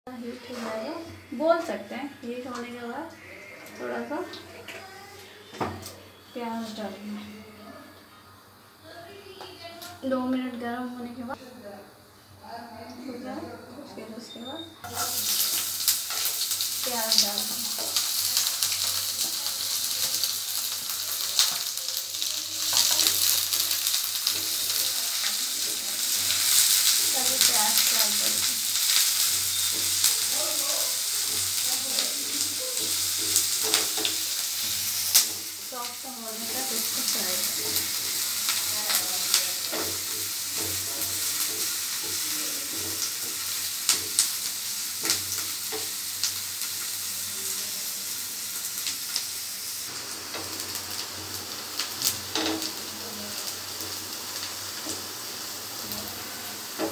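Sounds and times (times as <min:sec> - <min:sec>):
onions sizzling in oil: 0:00.1 - 0:07.4, 0:08.1 - 0:56.9.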